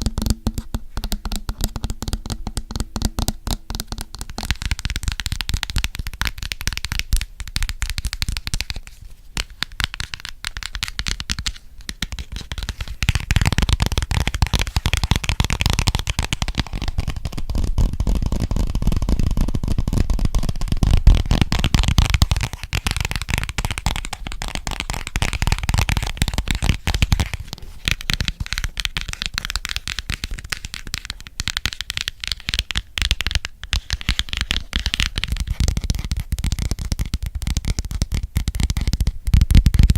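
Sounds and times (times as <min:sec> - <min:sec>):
fast finger tapping clicks: 0:00.0 - 0:39.9.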